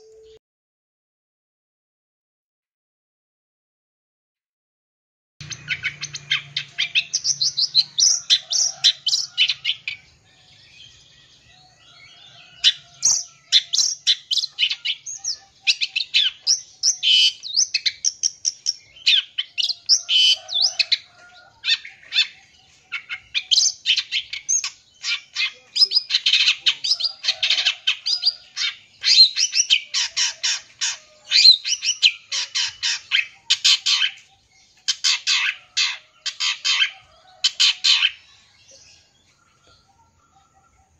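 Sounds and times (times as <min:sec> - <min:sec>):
bird singing chirps and trills: 0:05.4 - 0:40.9.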